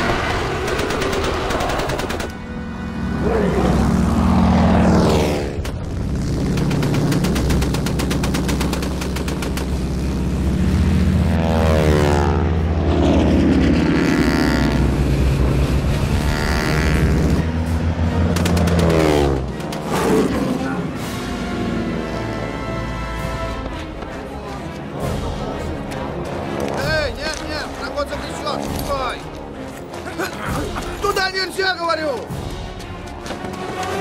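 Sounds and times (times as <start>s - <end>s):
biplane engines and propellers: 0.0s - 34.0s.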